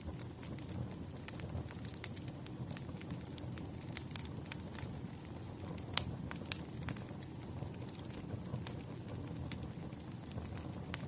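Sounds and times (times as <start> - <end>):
burning logs popping and snapping: 0.0 - 11.0
low rumble of flames: 0.0 - 11.0.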